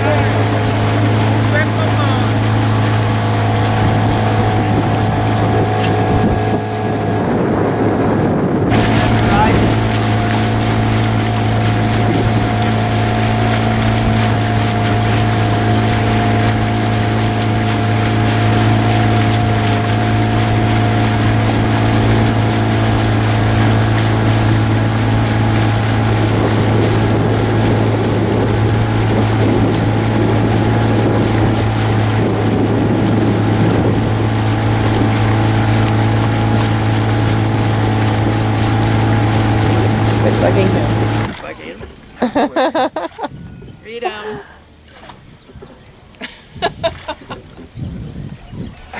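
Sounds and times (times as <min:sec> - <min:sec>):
boat motor running: 0:00.0 - 0:48.9.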